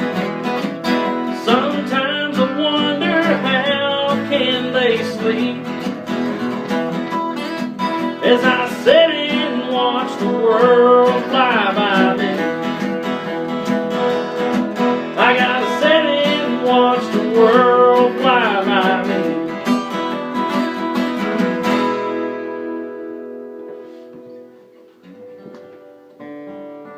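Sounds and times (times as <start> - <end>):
strummed acoustic guitar: 0.0 - 26.9.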